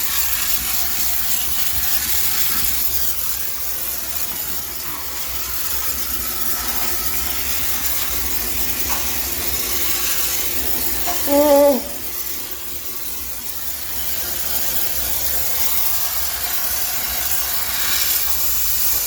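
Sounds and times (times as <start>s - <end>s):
steam cleaner hissing: 0.0s - 19.0s.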